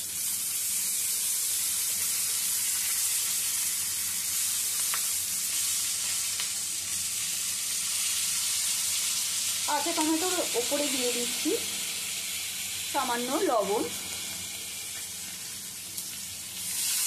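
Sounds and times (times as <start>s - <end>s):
tomato slices sizzling in oil: 0.0s - 17.0s.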